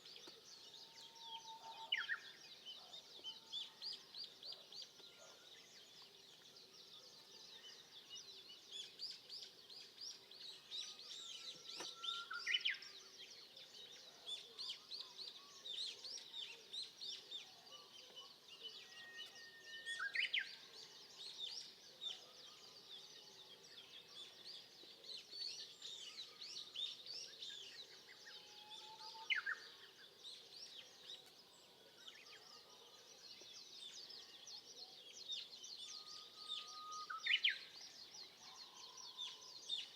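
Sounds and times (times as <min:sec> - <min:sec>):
chorus of bird chirps: 0:00.0 - 0:39.9.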